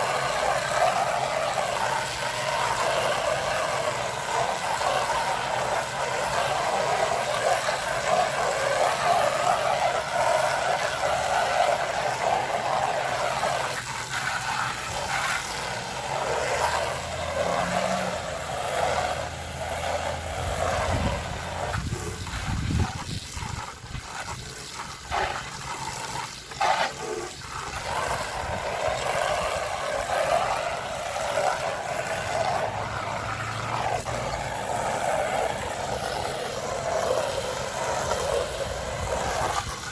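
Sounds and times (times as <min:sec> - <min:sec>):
water spraying against siding: 0:00.0 - 0:39.9.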